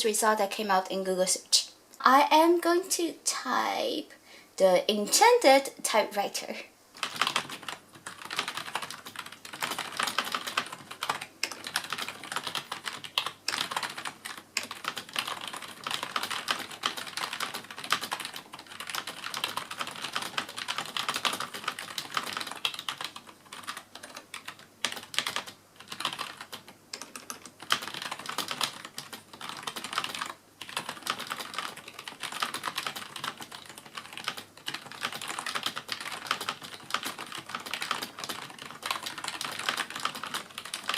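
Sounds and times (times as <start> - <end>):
fast typing on keyboard: 7.0 - 40.9.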